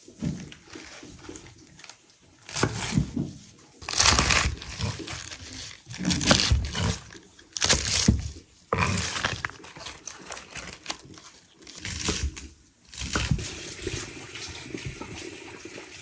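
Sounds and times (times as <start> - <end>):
crinkling rustling handling noise: 0.0 - 15.3.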